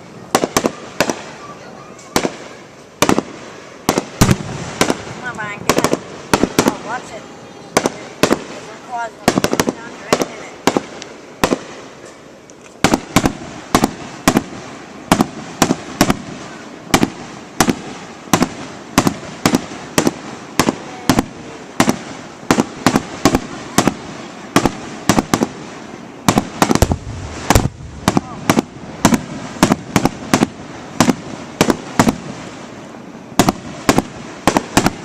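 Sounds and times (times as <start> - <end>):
firework shells bursting: 0.0 - 32.7, 33.3 - 35.0
fireworks rumble and crackle: 0.0 - 35.0.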